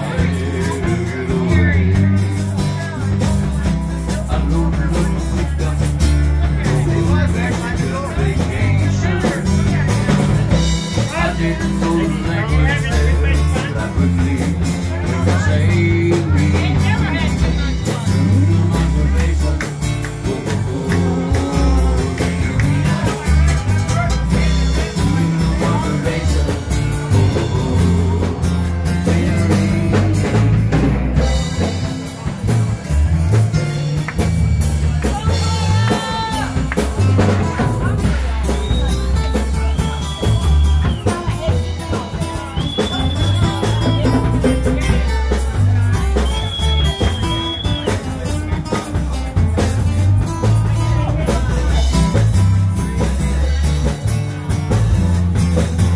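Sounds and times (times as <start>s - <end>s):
person singing: 0.0s - 32.3s, 34.8s - 54.7s
amplified acoustic guitar: 0.0s - 55.9s.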